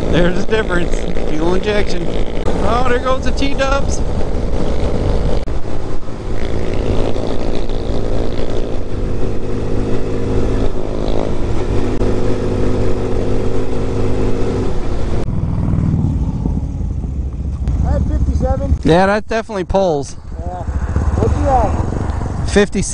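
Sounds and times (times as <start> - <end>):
motorcycle engine at high revs: 0.0 - 18.9, 20.2 - 22.9
wind rushing over microphone: 0.0 - 18.9, 19.6 - 22.9.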